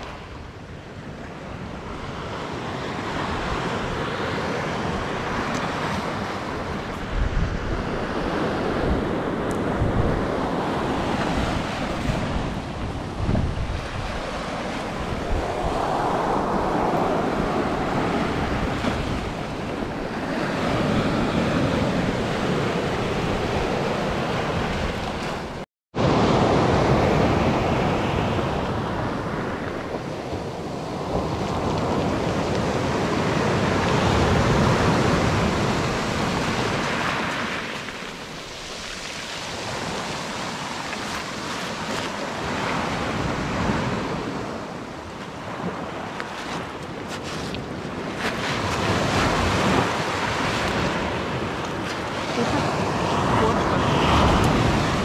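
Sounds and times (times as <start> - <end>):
wind buffeting microphone: 0.0 - 55.0
surf breaking on beach: 1.7 - 55.0.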